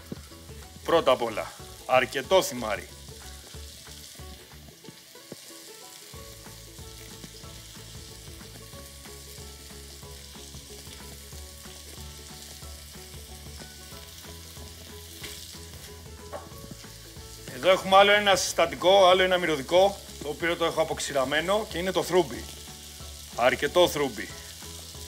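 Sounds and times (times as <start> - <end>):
vegetables sizzling in a frying pan: 0.0 - 25.0.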